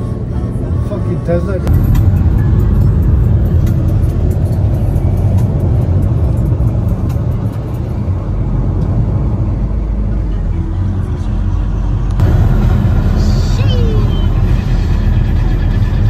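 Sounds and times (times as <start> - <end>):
tyre and road noise in car: 1.6 - 16.0.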